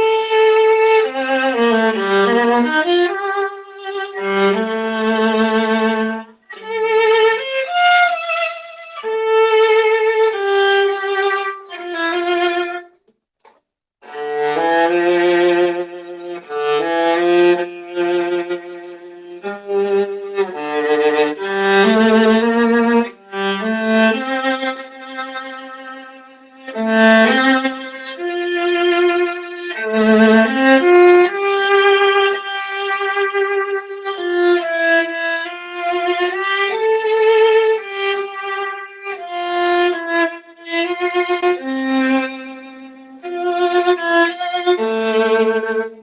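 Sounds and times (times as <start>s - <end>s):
solo viola bowed notes: 0.0s - 12.9s, 14.0s - 46.0s.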